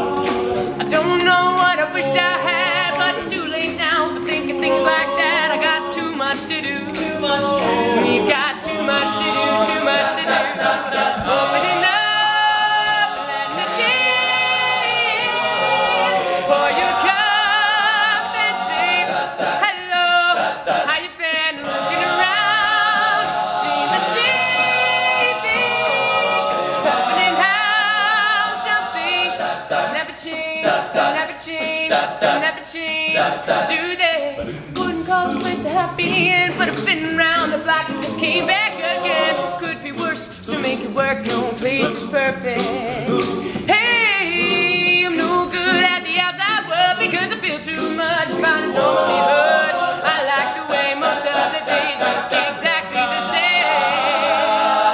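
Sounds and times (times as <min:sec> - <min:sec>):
male a cappella group singing: 0:00.0 - 0:54.9.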